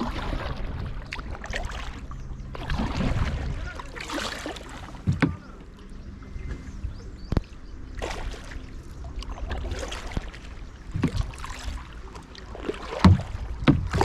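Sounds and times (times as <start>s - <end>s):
kayak paddle splashing: 0.0s - 14.0s
low steady rumble: 0.0s - 14.0s.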